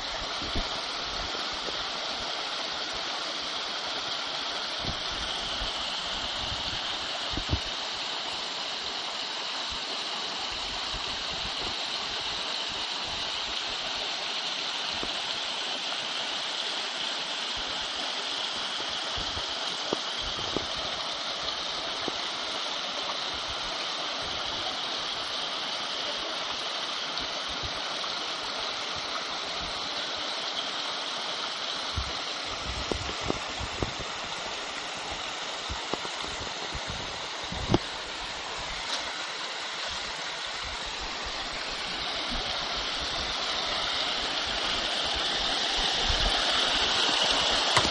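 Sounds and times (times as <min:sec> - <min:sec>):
creek waterfall rushing: 0:00.0 - 0:47.9.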